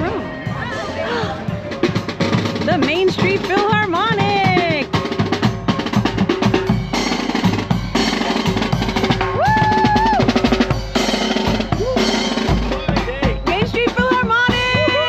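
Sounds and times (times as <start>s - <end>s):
marching drum line cadence: 0.0s - 15.0s.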